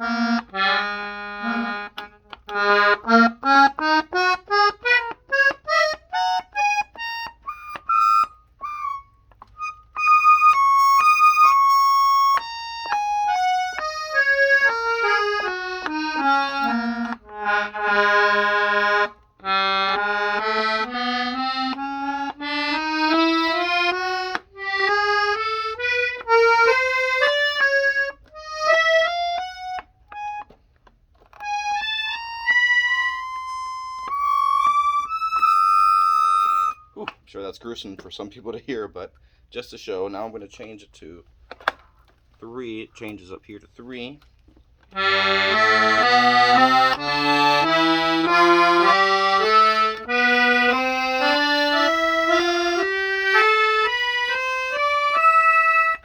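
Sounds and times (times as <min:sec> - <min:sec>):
accordion single notes: 0:00.0 - 0:38.2, 0:40.2 - 0:56.0.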